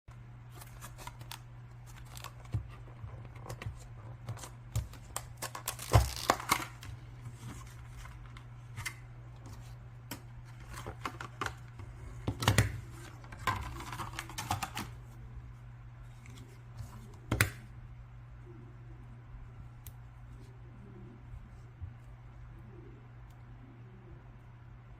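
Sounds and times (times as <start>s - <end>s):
low electrical hum: 0.1s - 24.9s.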